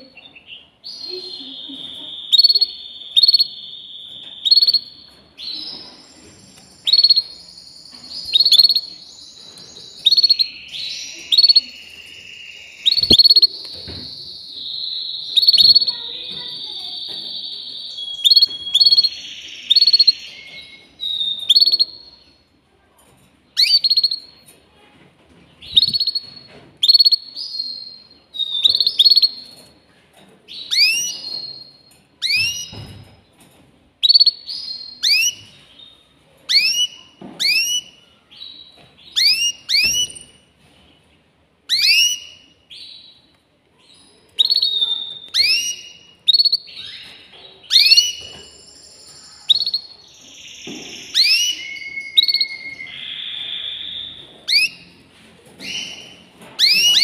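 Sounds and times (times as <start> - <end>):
canary singing: 0.0 - 22.4, 23.6 - 24.6, 25.6 - 29.8, 30.5 - 33.1, 34.0 - 40.6, 41.6 - 57.0.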